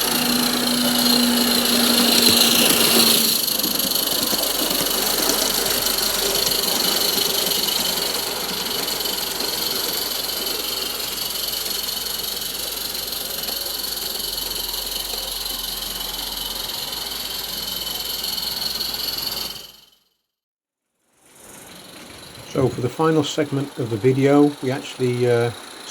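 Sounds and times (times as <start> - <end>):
steam hissing: 0.0 - 19.9, 21.2 - 25.9
steam locomotive chuffing: 0.0 - 20.0, 21.2 - 25.9.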